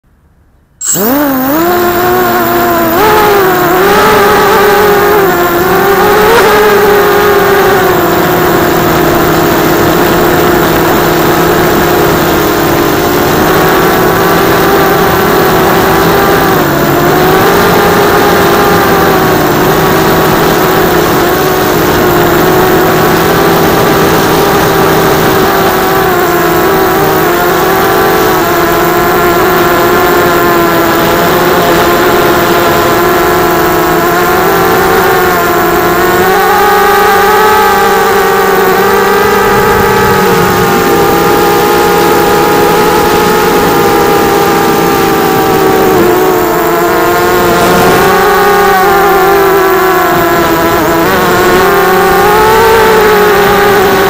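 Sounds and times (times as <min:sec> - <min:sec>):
drone motors whining: 0:00.8 - 0:54.0.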